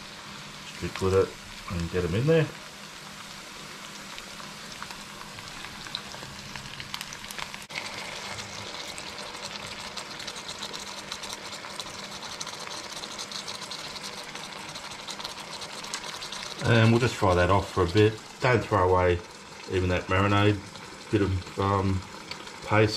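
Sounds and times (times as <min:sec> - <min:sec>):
chicken sizzling in oil: 0:00.0 - 0:22.9.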